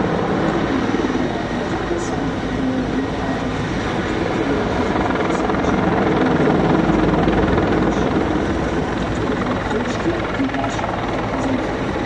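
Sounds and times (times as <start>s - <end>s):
helicopter rotor and engines rumbling: 0.0s - 12.0s.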